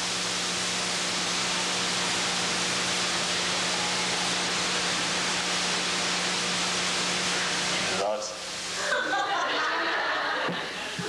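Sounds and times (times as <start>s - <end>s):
tape hiss: 0.0s - 11.0s.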